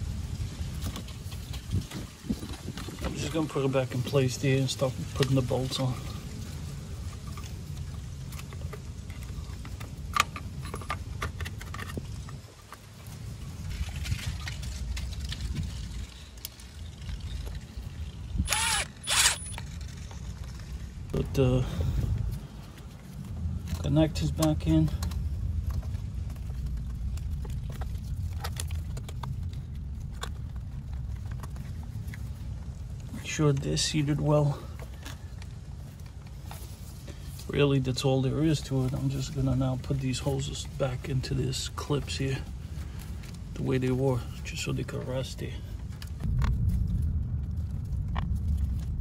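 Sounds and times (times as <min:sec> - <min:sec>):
low rumble: 0:00.0 - 0:40.0, 0:42.4 - 0:49.0.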